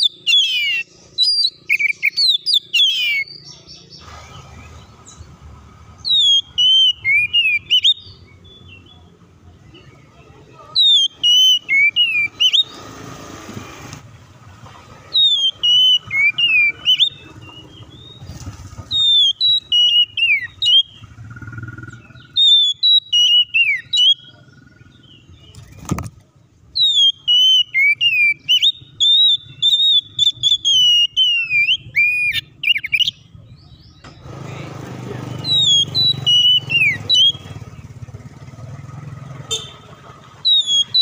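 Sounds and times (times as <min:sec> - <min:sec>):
bird singing whistles and trills: 0:00.0 - 0:05.3, 0:05.9 - 0:10.1, 0:10.7 - 0:13.0, 0:15.1 - 0:25.9, 0:26.7 - 0:34.2, 0:35.3 - 0:38.0, 0:39.5 - 0:41.0.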